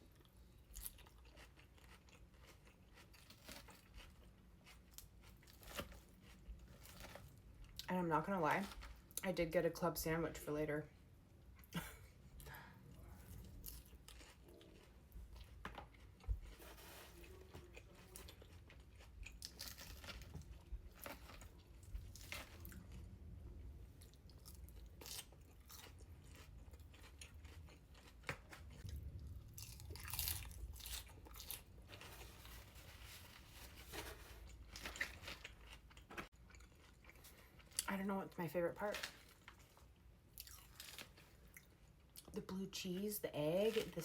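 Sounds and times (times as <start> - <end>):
person chewing and crunching food: 0.0 - 9.3, 11.4 - 42.6.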